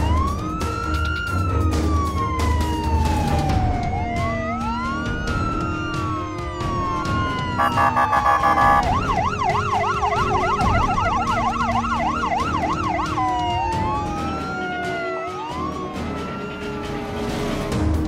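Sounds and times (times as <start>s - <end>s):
ambulance siren: 0.0s - 17.9s.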